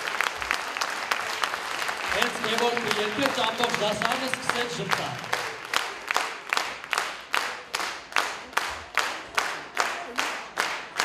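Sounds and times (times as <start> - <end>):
audience clapping in rhythm: 0.0 - 11.0.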